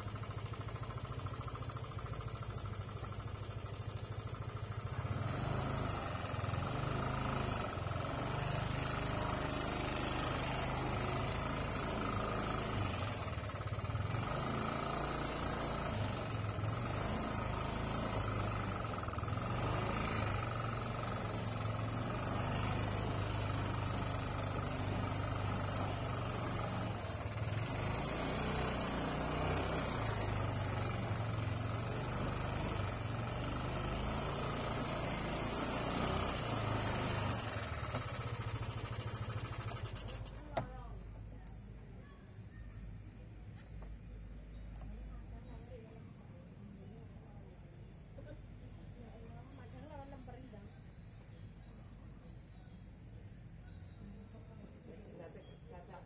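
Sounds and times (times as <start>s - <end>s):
vehicle engine humming: 0.0s - 56.0s.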